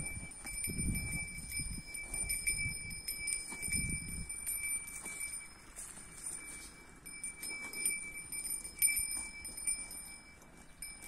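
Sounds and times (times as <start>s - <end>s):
cattle tearing and chewing grass: 0.0s - 11.0s
faint high-pitched ringing: 0.0s - 11.0s.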